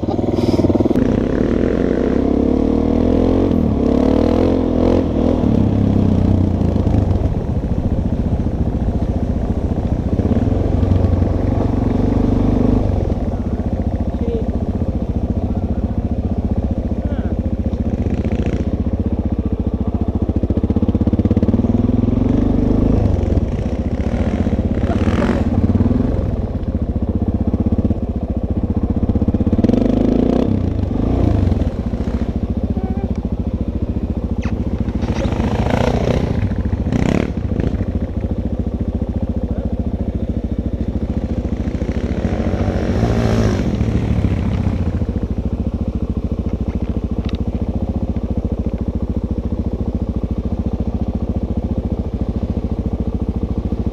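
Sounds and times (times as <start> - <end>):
dirt bike engine revving: 0.0 - 33.1, 33.9 - 45.7.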